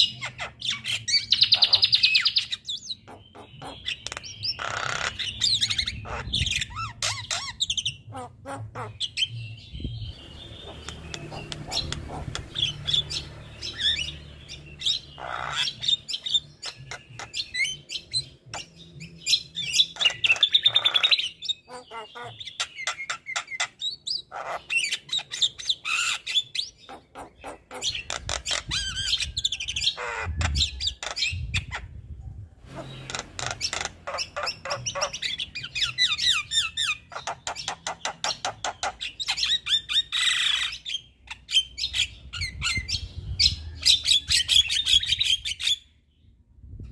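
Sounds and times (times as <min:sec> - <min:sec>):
bird chattering song: 0:00.0 - 0:46.4.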